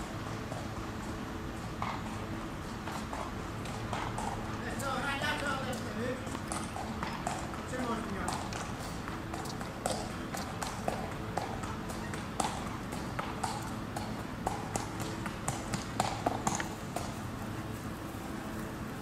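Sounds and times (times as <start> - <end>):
horse hooves clopping on pavement: 0.0 - 19.0.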